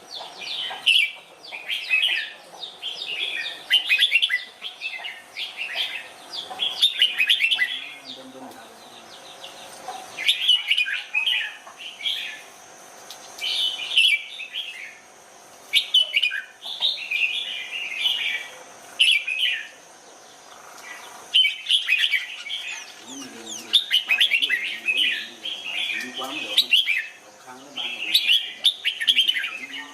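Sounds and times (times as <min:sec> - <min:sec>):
bulbul singing warbled phrases: 0:00.0 - 0:12.5, 0:15.7 - 0:29.9.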